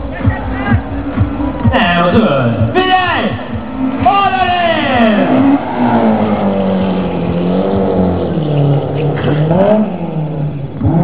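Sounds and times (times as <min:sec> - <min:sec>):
car engine revving past: 0:00.1 - 0:11.0.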